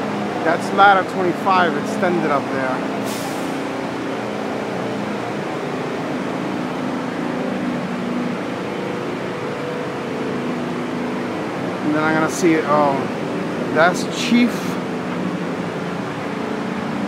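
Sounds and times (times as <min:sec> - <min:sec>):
diesel engines idling: 0:00.0 - 0:17.0
street noise: 0:00.0 - 0:17.0.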